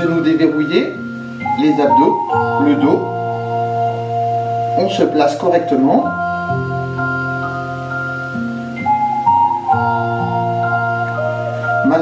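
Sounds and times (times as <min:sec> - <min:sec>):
slow keyboard background music: 0:00.0 - 0:12.0.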